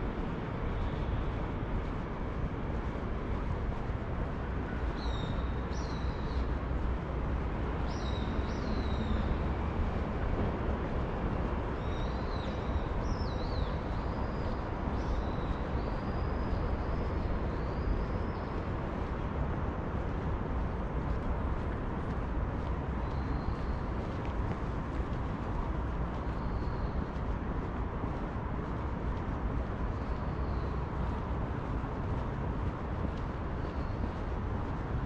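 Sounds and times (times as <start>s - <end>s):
city street rumble: 0.0s - 35.0s.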